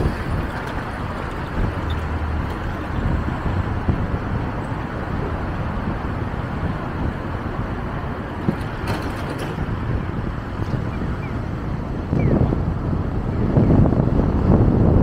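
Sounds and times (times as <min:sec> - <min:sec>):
car tyre and engine rumble: 0:00.0 - 0:15.0.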